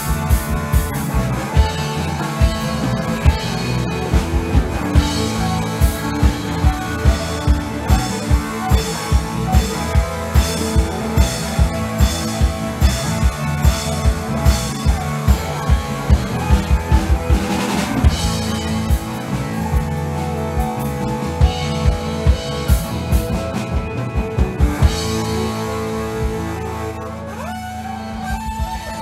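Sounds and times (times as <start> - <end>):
bass notes: 0.0 - 29.0
drum kit beat: 0.0 - 29.0
rock band playing: 0.0 - 29.0.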